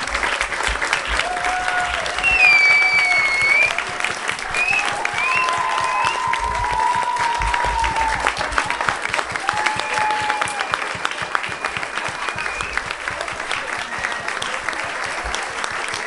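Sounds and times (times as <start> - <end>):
audience clapping: 0.0 - 16.0.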